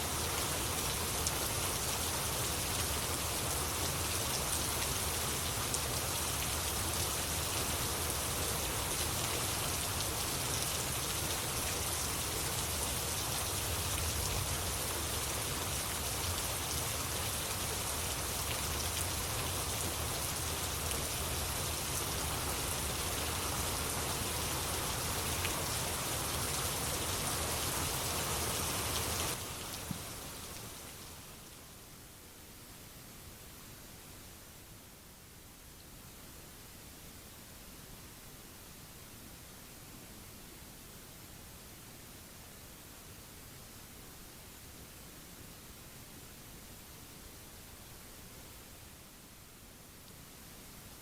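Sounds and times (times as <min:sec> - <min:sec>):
faint hiss: 0:00.0 - 0:51.0
steady rain falling: 0:00.0 - 0:51.0.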